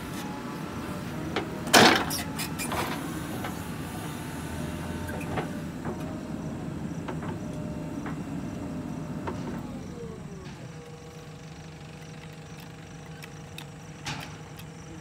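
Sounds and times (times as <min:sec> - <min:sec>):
backhoe diesel engine running: 0:00.0 - 0:15.0.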